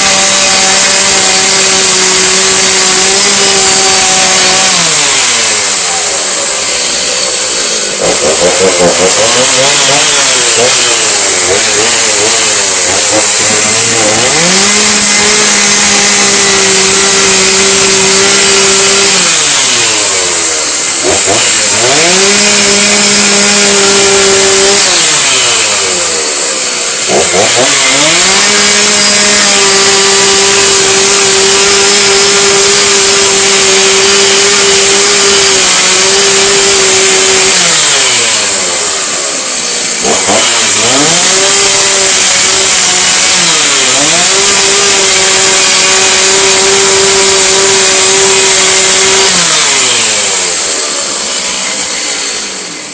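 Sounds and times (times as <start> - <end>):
chainsaw engine revving: 0.0 - 52.9.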